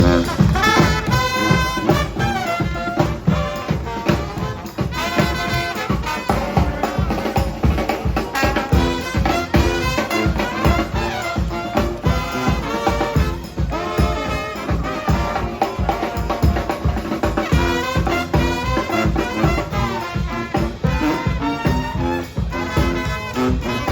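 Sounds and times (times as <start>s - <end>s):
brass horns: 0.0s - 23.9s
steady drum beat: 0.0s - 23.9s.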